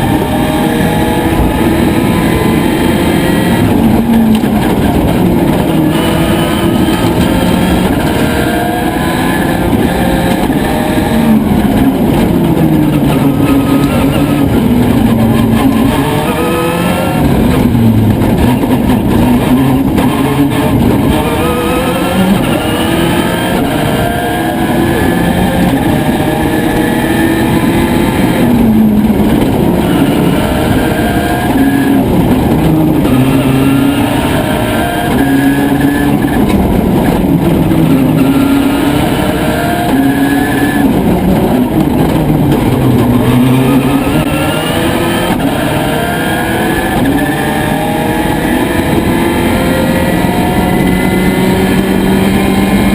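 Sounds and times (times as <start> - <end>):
rally car engine revving: 0.0 - 52.9.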